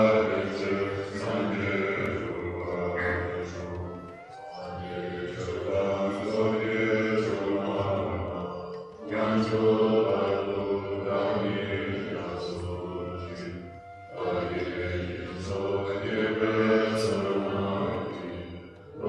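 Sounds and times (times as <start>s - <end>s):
voices chanting to music: 0.0s - 19.0s.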